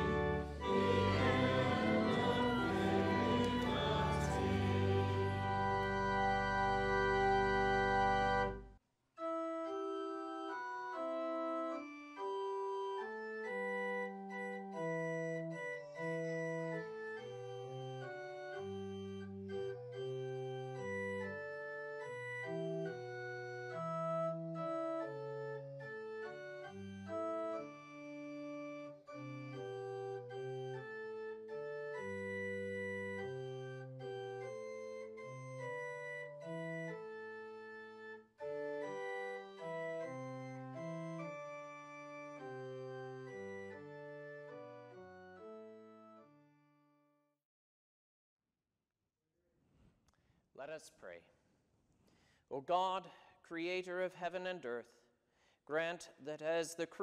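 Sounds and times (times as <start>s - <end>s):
church organ playing chords: 0.0s - 46.4s.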